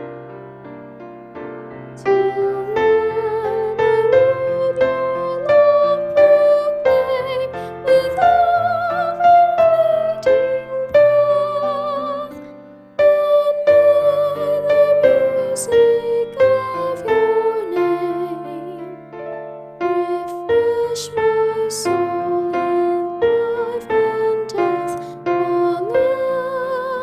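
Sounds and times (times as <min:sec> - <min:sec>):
piano playing chords: 0:00.0 - 0:27.0.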